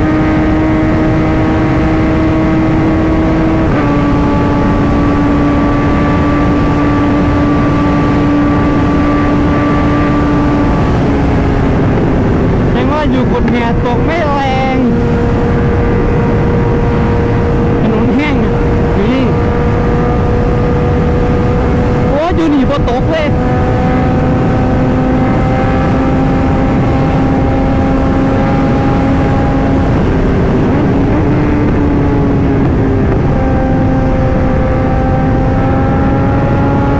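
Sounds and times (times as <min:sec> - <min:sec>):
loud wind rush: 0:00.0 - 0:36.9
motorcycle engine running: 0:00.0 - 0:36.9.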